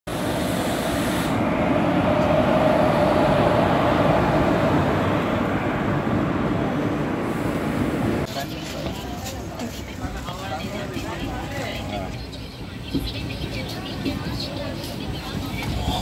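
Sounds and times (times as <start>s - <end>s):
train rumbling on rails: 0.1s - 16.0s.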